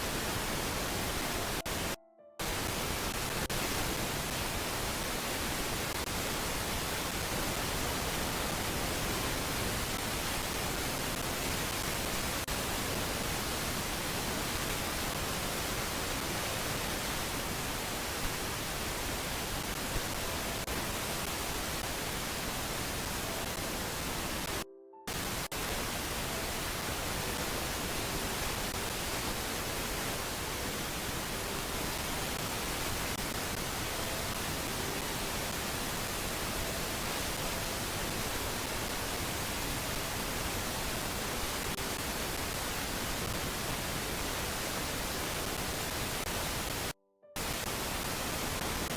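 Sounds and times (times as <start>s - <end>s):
static-like hiss: 0.0s - 48.9s.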